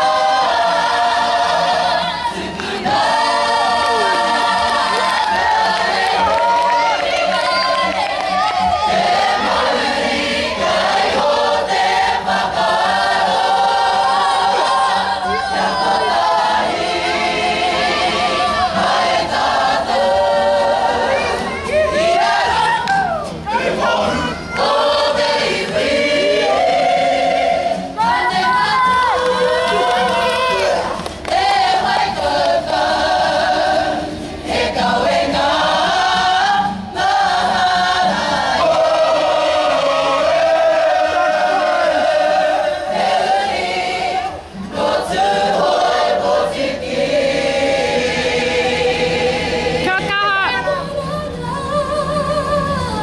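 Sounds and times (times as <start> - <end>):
choir singing in harmony: 0.0 - 53.0.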